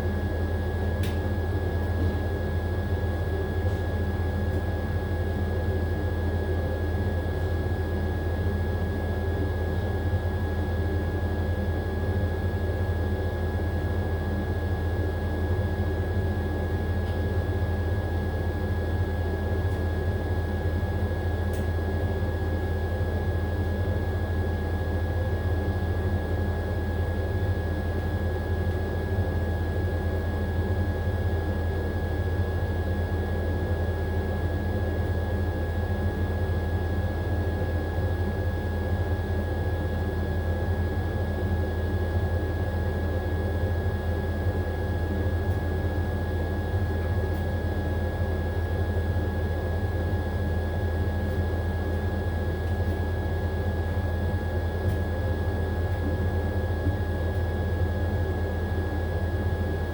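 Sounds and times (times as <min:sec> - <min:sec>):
washing machine high whine: 0:00.0 - 0:59.9
washing machine spin cycle hum: 0:00.0 - 0:59.9.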